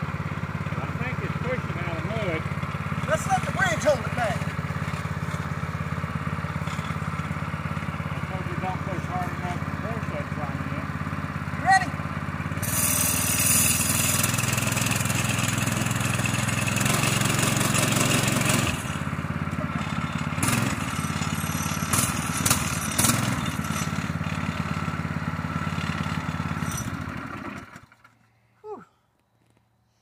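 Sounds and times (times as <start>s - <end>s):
small engine running: 0.0s - 28.4s.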